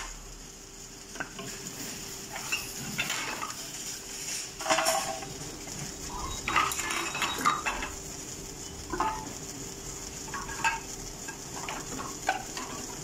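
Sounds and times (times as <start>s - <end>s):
vending machine humming: 0.0s - 13.0s.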